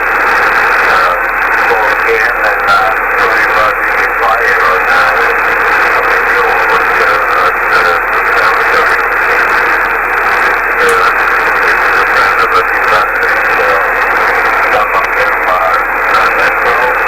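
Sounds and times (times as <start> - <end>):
shortwave radio hiss: 0.1 - 17.0.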